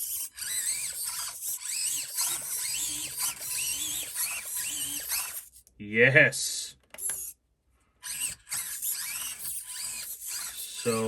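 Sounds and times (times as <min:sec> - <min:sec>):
small electric motors whining: 0:00.0 - 0:05.6, 0:07.0 - 0:07.4, 0:08.0 - 0:11.0.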